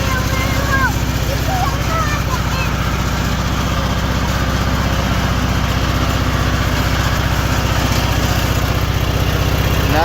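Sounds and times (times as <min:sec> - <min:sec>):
riding lawn mower engine running: 0:00.0 - 0:10.0.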